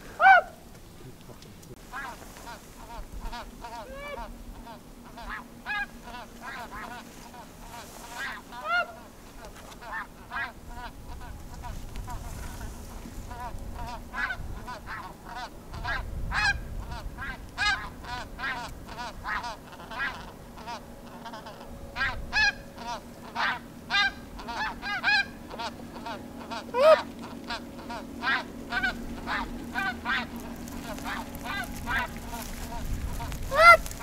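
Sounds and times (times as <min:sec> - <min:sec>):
geese honking: 0:00.0 - 0:00.6, 0:01.8 - 0:34.0.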